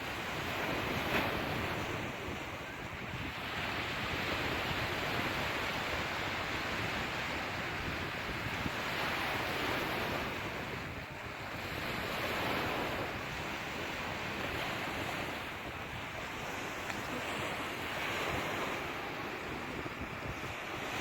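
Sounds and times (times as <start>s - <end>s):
sea waves washing on shore: 0.0s - 21.0s.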